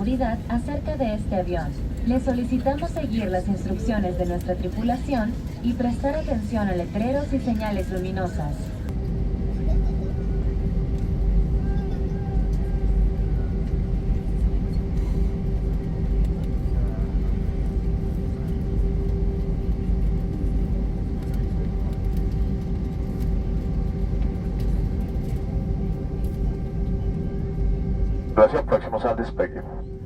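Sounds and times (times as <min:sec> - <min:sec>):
aircraft cabin rumble: 0:00.0 - 0:30.0
jet engines idling: 0:00.0 - 0:30.0.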